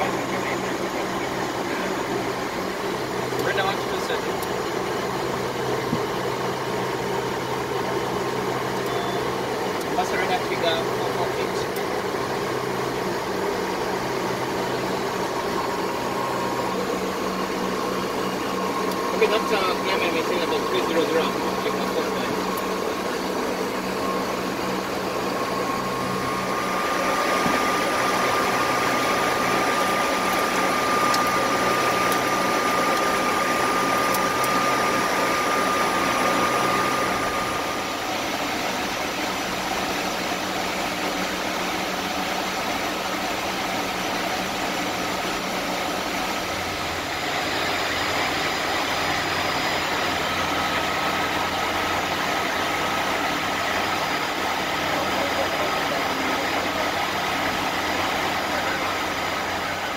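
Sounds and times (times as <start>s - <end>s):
jet engine hum: 0.0s - 59.9s
rushing air in cockpit: 0.0s - 59.9s
thin steady whine: 0.0s - 59.9s.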